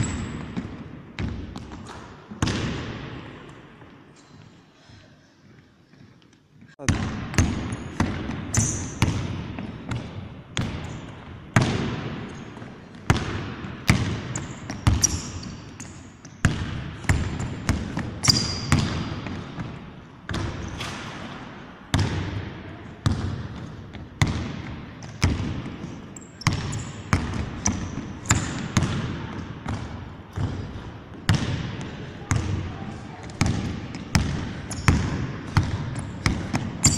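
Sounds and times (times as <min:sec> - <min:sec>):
basketball bouncing on wooden floor: 0:00.0 - 0:03.2, 0:06.9 - 0:36.9.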